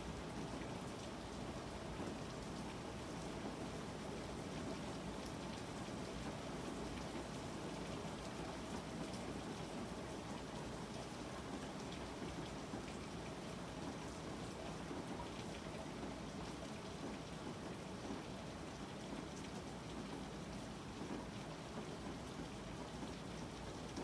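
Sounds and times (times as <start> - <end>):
rain drops ticking: 0.0 - 24.0
steady rain falling: 0.0 - 24.0.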